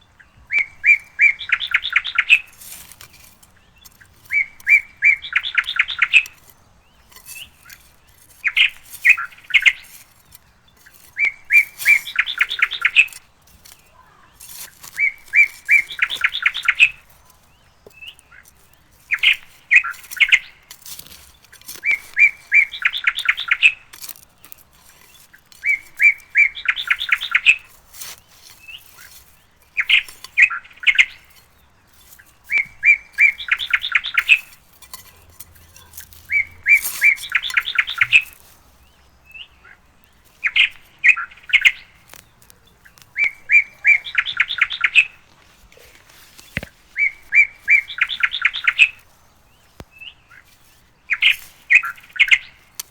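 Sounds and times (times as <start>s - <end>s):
bird singing with trill: 0.0s - 52.9s.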